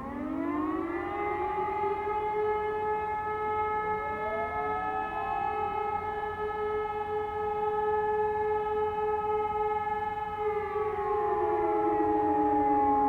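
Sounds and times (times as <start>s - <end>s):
motor sirens howling: 0.0s - 13.0s
siren winding down in falling wail: 0.0s - 13.0s.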